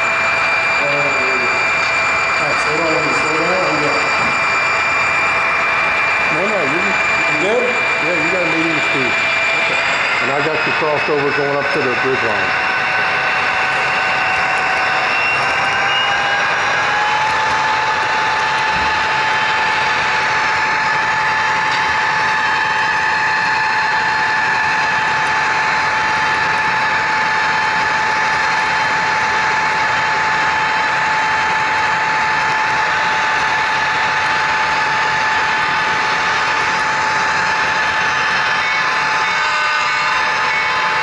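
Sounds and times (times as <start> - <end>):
model train running on track: 0.0 - 41.0.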